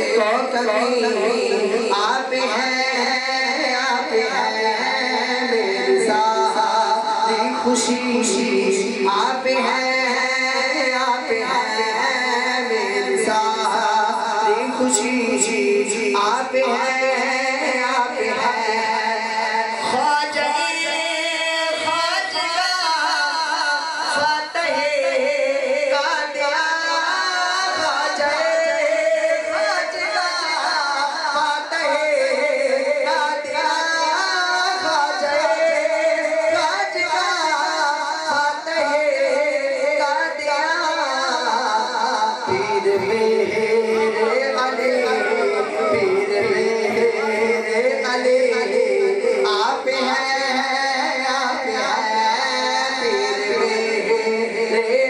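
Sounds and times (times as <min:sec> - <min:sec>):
man singing through a pa system: 0:00.0 - 0:55.0.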